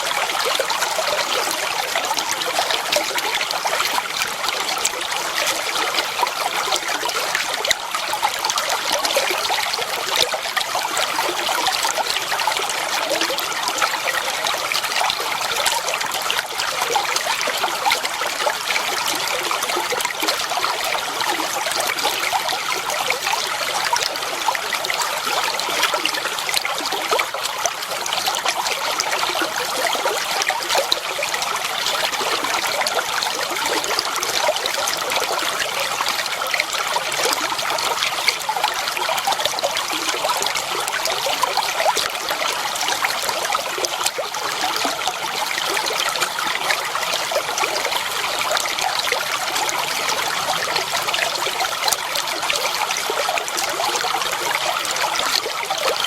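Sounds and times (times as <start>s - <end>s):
water babbling over rocks: 0.0s - 56.0s.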